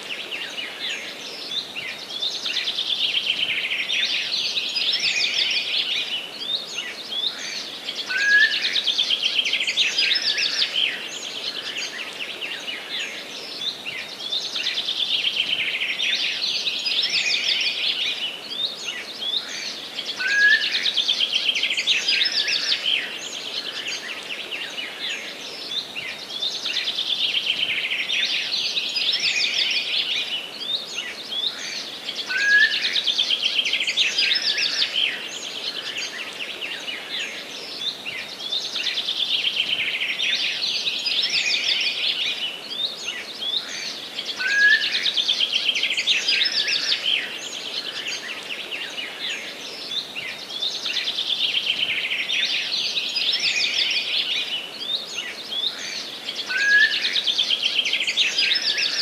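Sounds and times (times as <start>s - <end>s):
faint steady hiss: 0.0s - 59.0s
songbirds warbling: 0.0s - 59.0s.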